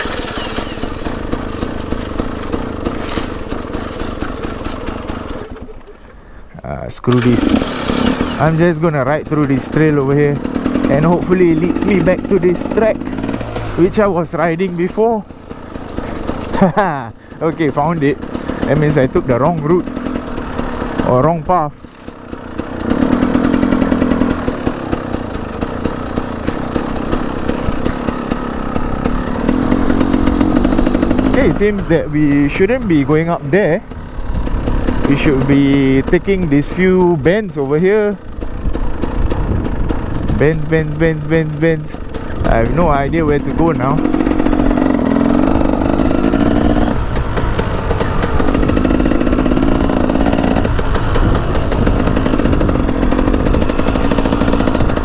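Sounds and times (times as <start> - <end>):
two-stroke dirt bike engine: 0.0 - 55.0.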